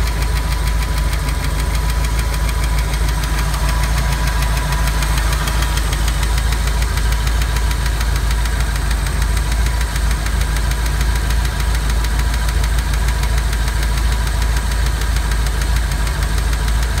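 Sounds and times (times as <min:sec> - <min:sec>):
engine running: 0:00.0 - 0:17.0
rapid engine ticking: 0:00.0 - 0:17.0.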